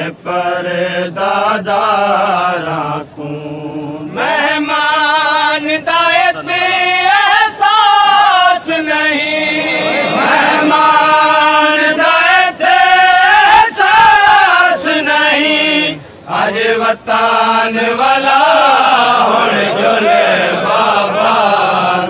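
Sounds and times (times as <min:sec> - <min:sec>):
chanted mourning lament singing: 0:00.0 - 0:22.0.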